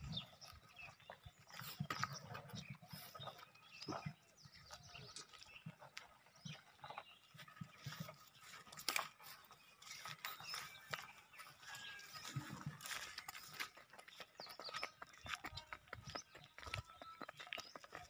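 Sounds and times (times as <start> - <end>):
footsteps in dry grass: 0.0 - 18.0.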